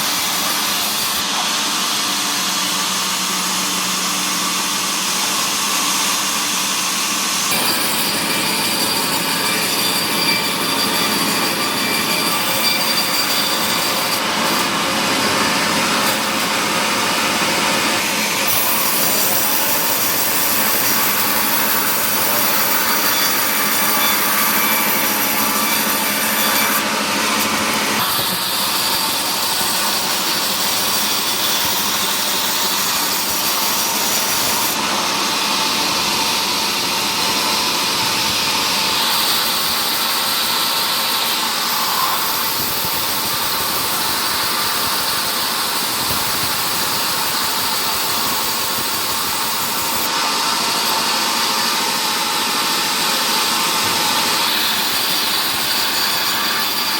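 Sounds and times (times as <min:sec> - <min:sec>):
power saw cutting timber: 0:00.0 - 0:56.9.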